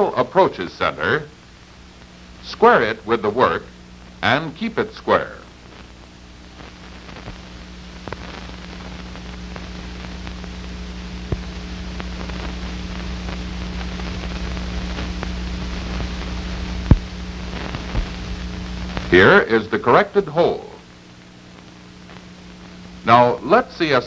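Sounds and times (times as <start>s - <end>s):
film soundtrack hiss and hum: 0.0s - 24.0s
crackling clicks: 1.6s - 19.2s, 20.8s - 23.1s.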